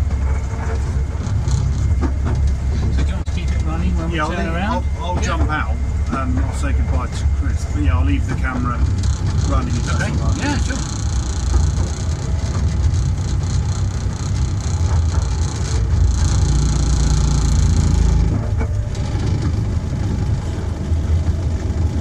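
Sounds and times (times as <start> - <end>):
miniature train rumbling: 0.0 - 22.0.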